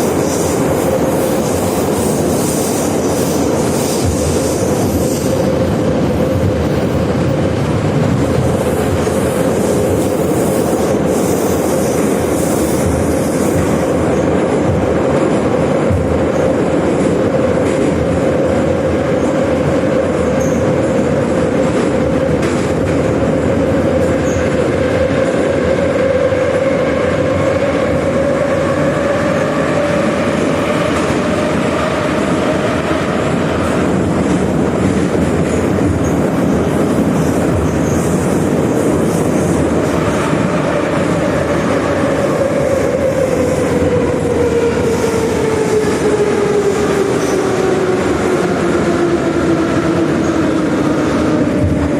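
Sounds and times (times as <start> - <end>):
wheels rumbling on rail: 0.0 - 51.9.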